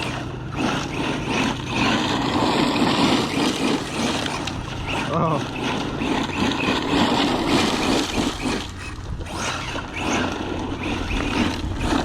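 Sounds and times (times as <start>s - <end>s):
electric rc truck motor: 0.0s - 12.0s
tires over grass and mud: 0.0s - 12.0s.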